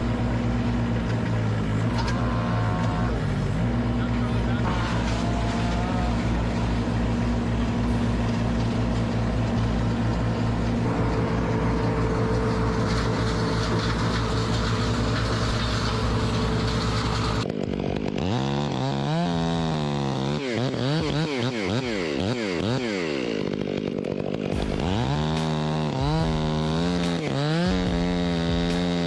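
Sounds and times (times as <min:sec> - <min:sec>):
chainsaw revving: 0:00.0 - 0:29.0
motor running: 0:00.0 - 0:29.0.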